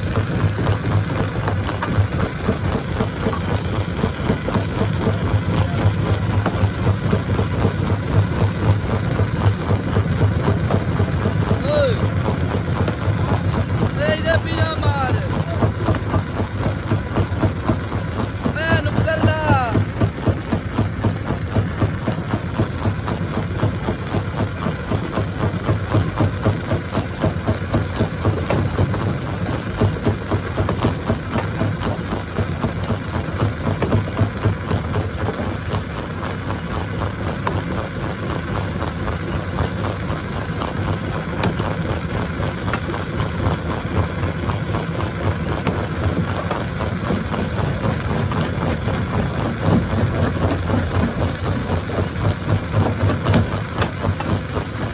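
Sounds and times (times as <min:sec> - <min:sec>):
heavy diesel engine pulsing: 0:00.0 - 0:54.9.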